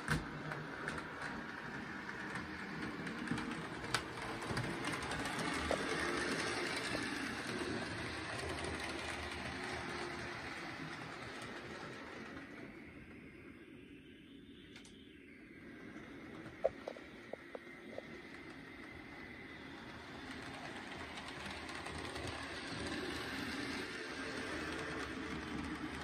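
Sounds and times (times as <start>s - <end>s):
model train motor whirring: 0.0s - 13.2s, 15.6s - 26.0s.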